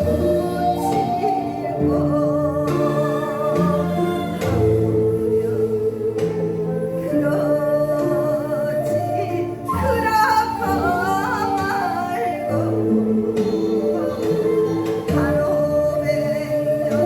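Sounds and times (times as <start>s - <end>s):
instrumental accompaniment: 0.0s - 17.0s.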